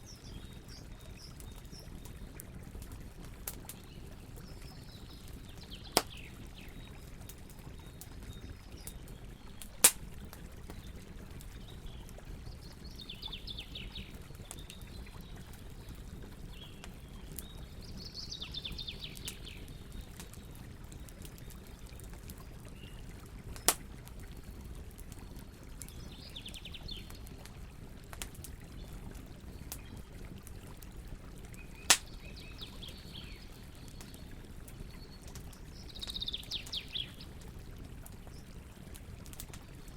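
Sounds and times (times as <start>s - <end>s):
campfire rumbling and crackling: 0.0s - 39.9s.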